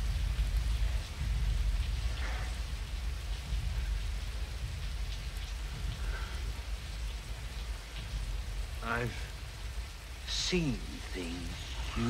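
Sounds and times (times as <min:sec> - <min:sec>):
deep low rumble: 0:00.0 - 0:10.1
heavy rain: 0:00.0 - 0:12.0.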